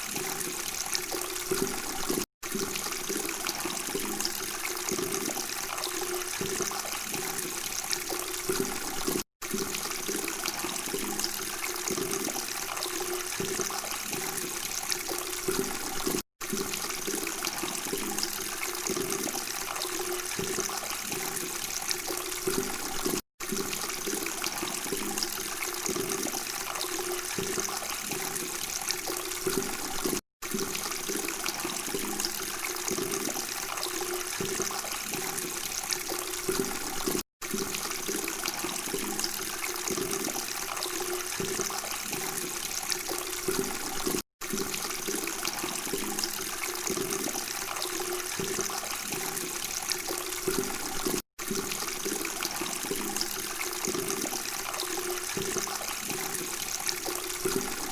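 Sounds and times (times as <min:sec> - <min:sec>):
running water babbling: 0:00.0 - 0:57.9.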